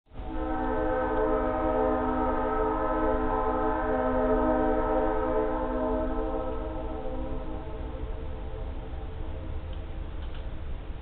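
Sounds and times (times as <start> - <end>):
distant train horn: 0.1 - 10.1
low rumble: 0.1 - 11.0.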